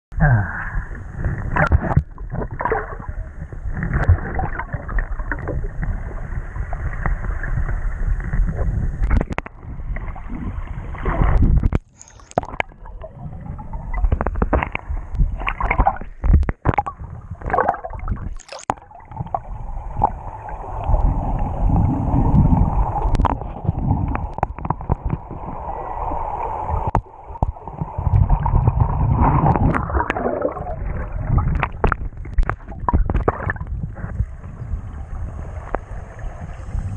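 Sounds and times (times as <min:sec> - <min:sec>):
underwater sloshing and bubbling: 0:00.6 - 0:36.9.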